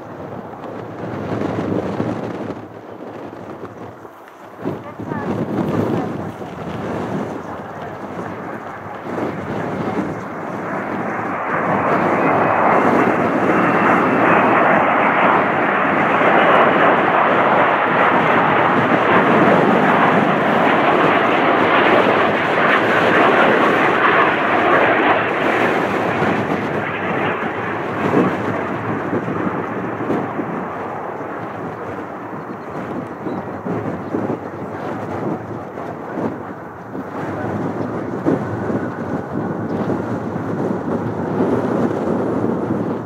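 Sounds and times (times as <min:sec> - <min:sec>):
jet engines rushing: 0:00.0 - 0:43.0.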